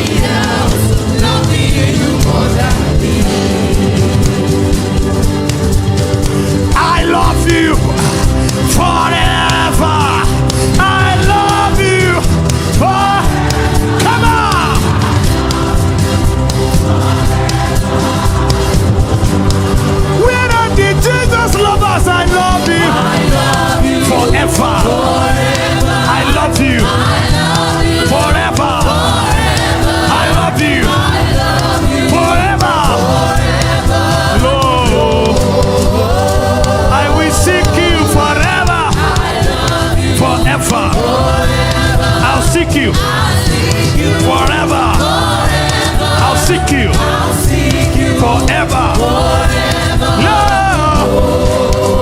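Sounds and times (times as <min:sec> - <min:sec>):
group singing gospel: 0:00.0 - 0:52.0
instrumental backing with cymbals: 0:00.0 - 0:52.0.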